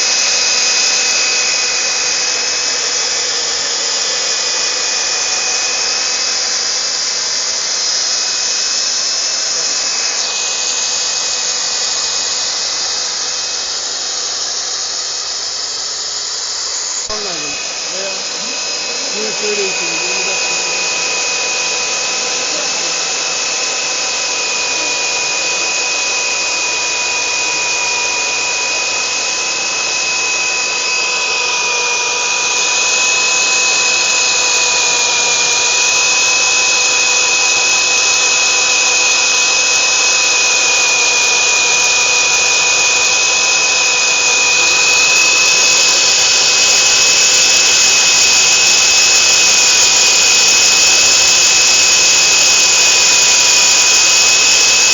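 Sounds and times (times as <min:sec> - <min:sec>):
core drill whining: 0:00.0 - 0:54.9
drill bit grinding concrete: 0:00.0 - 0:54.9.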